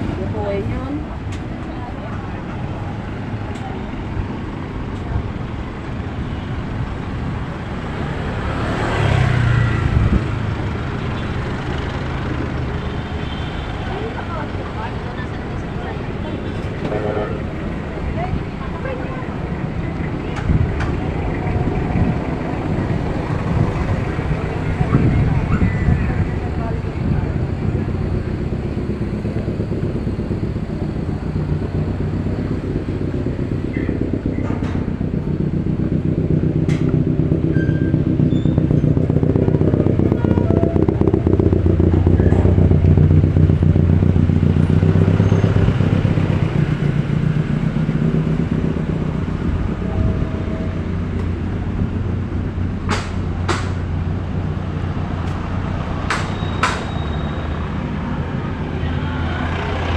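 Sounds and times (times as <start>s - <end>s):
street traffic: 0.0s - 59.9s
vehicle engine running: 0.0s - 59.9s.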